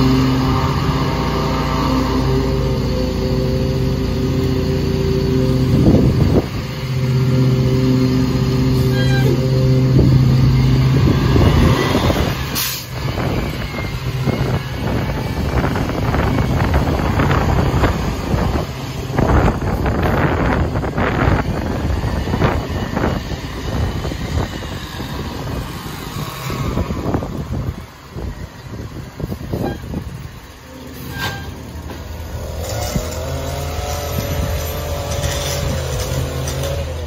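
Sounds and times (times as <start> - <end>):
garbage truck engine running: 0.0 - 37.0.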